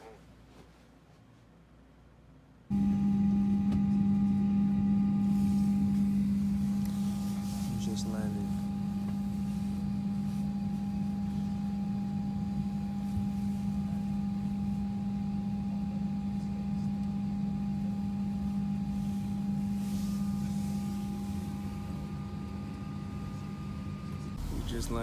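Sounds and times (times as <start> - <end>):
high whine: 2.7 - 15.8, 18.0 - 25.0
jet cabin drone: 2.7 - 25.0.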